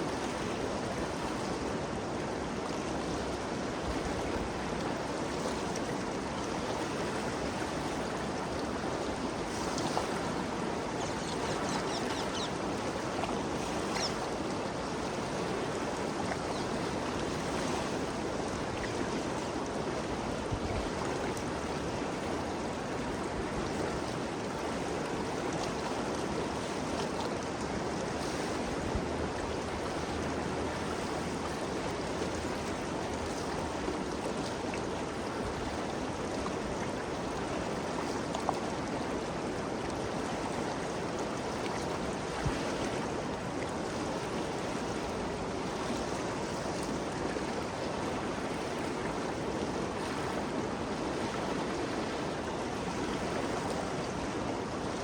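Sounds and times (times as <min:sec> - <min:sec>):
faint water splashes: 0:00.0 - 0:55.0.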